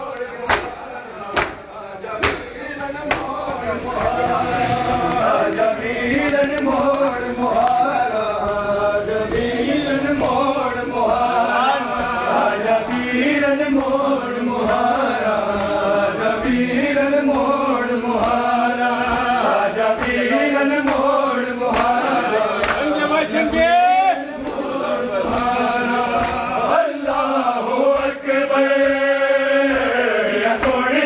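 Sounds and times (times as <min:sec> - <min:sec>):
men chanting a mourning lament: 0:00.0 - 0:31.0.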